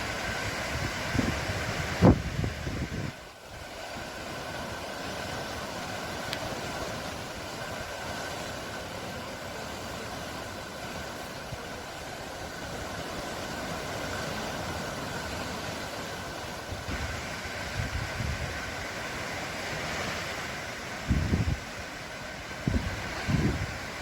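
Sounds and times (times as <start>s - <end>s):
sea waves washing on shore: 0.0s - 24.0s.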